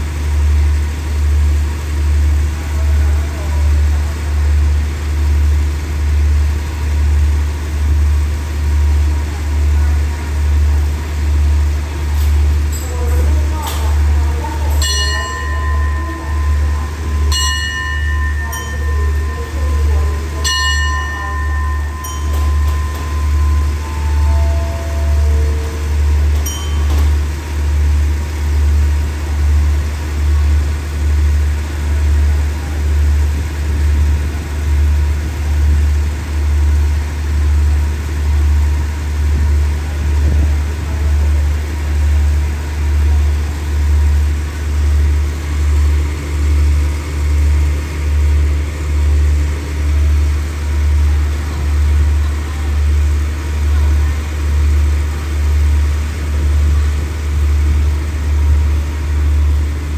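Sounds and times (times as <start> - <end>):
diesel engine idling hum: 0.0 - 59.9
station platform bell ringing: 0.2 - 59.9.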